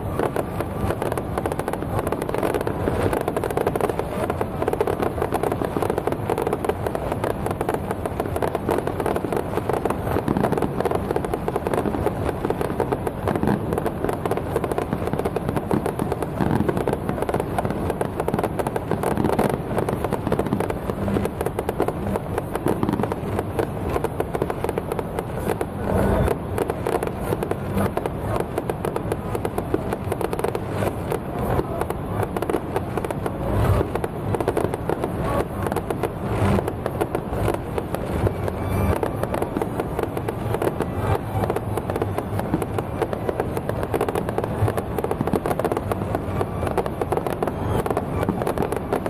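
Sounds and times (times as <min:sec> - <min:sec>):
fireworks crackling: 0:00.0 - 0:49.0.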